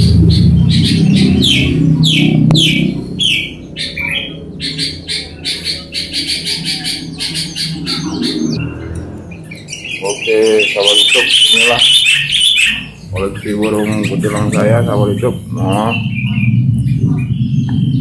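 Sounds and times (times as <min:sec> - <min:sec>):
low rumble: 0:00.0 - 0:10.9, 0:12.2 - 0:18.0
bulbuls calling: 0:00.0 - 0:18.0.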